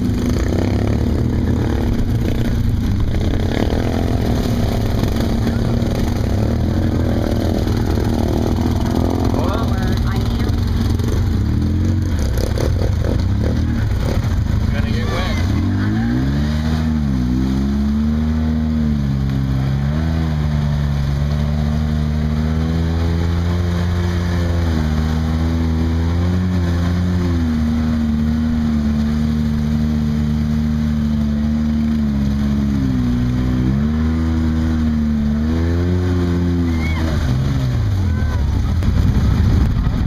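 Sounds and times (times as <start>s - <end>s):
utility vehicle engine running: 0.0s - 40.0s.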